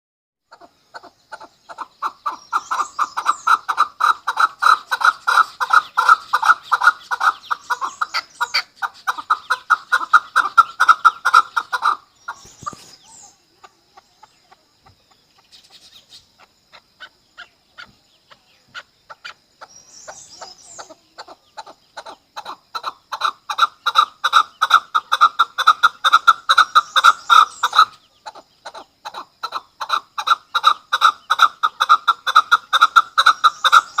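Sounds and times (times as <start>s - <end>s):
partridge calling chuk notes: 0.5s - 34.0s.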